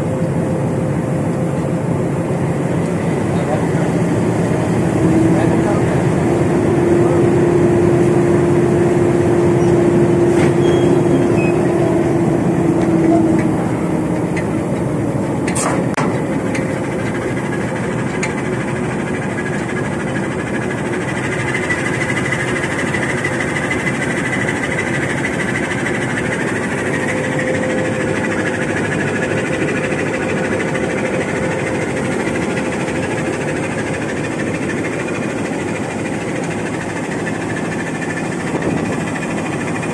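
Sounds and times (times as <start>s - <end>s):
diesel locomotive idling: 0.0s - 39.9s
steady hum: 0.0s - 39.9s.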